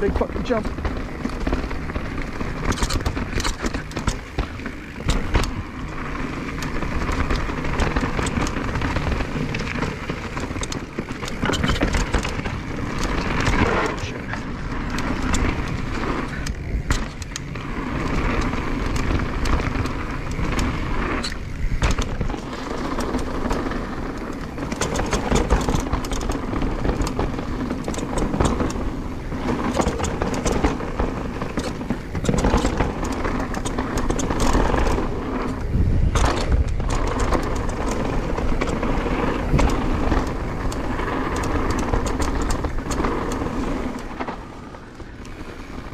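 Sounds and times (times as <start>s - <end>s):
bike rattling and knocking: 0.0s - 45.9s
bike tyres rolling over gravel: 0.0s - 45.9s.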